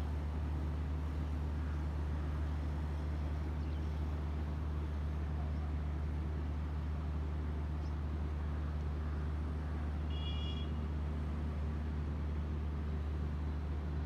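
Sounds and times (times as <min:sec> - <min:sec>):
road noise: 0:00.0 - 0:14.0
vehicle engine drone: 0:00.0 - 0:14.0.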